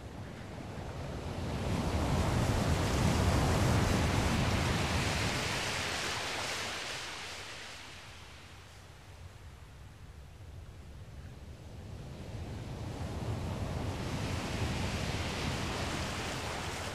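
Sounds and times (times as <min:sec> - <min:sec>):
sea surf washing over sand: 0:00.1 - 0:09.0, 0:11.5 - 0:16.9.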